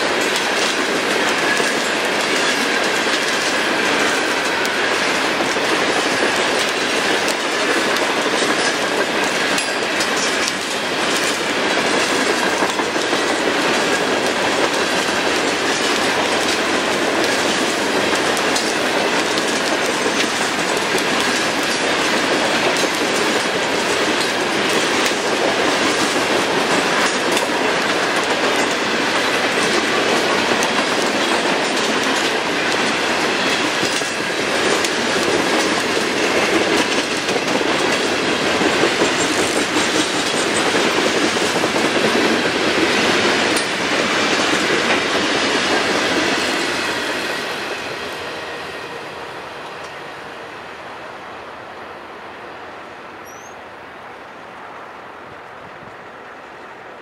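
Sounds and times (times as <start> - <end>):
wheels clicking over rail joints: 0.0 - 47.8.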